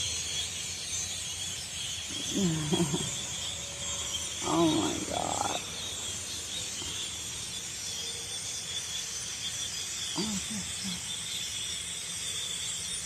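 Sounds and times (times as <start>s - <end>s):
flock of blackbirds chattering: 0.0s - 12.8s.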